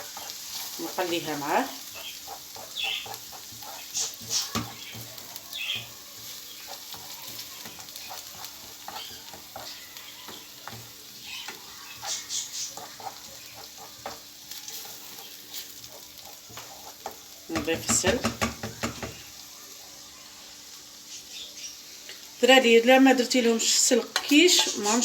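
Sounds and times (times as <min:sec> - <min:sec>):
spoon stirring and scraping pan: 0:00.0 - 0:22.3, 0:23.8 - 0:25.0
food sizzling in frying pan: 0:00.0 - 0:25.0.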